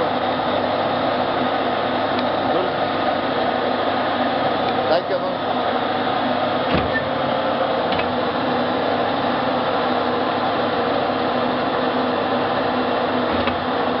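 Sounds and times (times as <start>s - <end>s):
electric pump humming: 0.0s - 14.0s.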